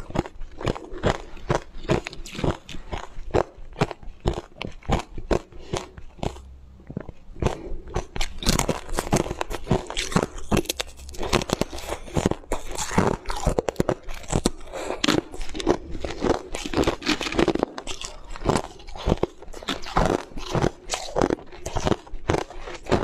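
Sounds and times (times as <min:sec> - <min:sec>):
ice being bitten and chewed: 0:00.0 - 0:23.0.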